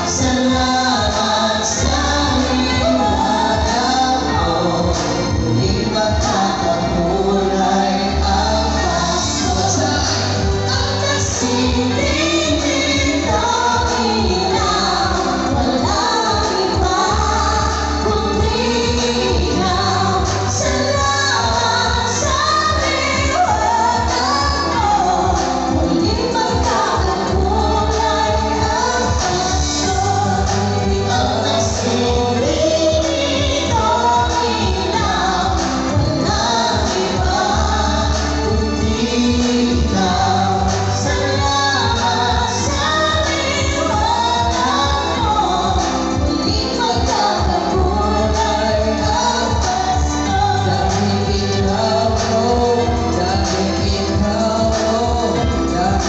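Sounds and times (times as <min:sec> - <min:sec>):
amplified backing music: 0:00.0 - 0:56.0
two people singing: 0:00.0 - 0:56.0.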